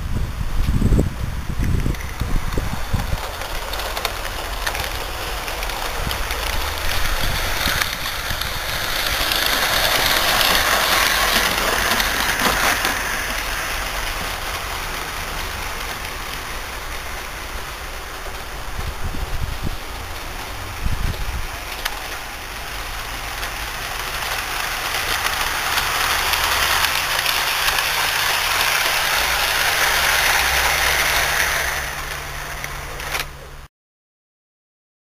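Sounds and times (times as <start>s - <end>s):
model train rolling on track: 0.4s - 33.7s.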